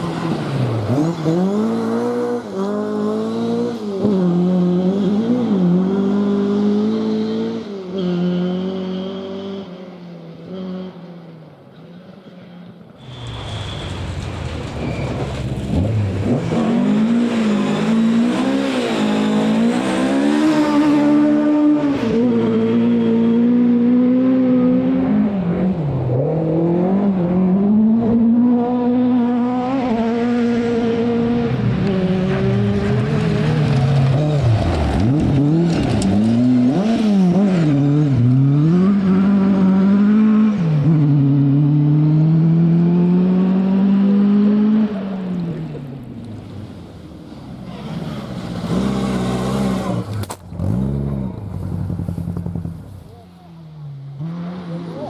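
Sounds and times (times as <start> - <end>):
rally car engine revving: 0.0 - 11.0, 13.0 - 55.0.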